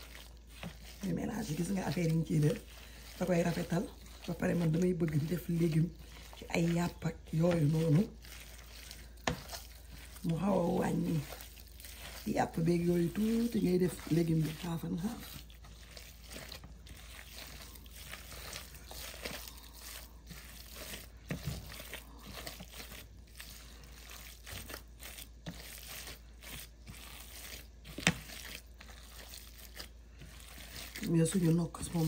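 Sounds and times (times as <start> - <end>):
squelching raw meat: 0.0 - 32.0.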